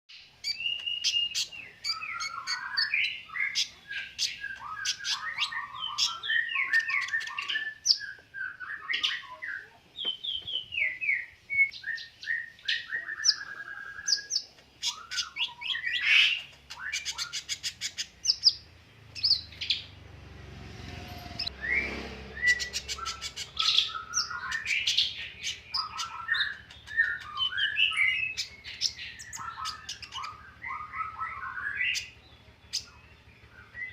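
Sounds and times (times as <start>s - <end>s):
songbird singing: 0.1s - 33.9s.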